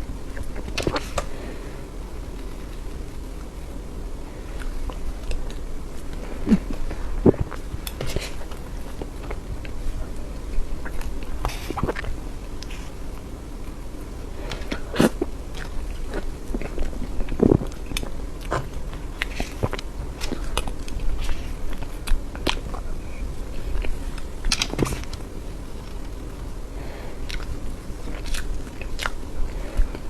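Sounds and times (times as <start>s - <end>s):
person chewing: 0.2s - 30.0s.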